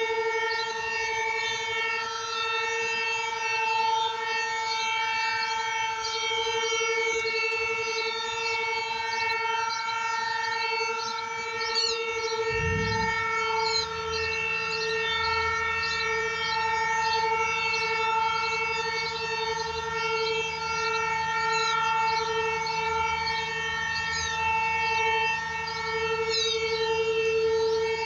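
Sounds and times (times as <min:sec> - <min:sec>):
warning siren steady tone: 0:00.0 - 0:28.0.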